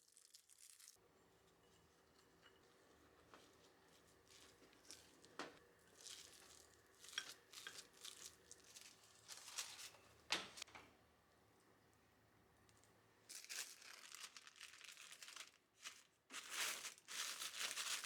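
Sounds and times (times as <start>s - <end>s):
light rustling and crinkling: 0.2s - 10.8s, 12.7s - 18.0s.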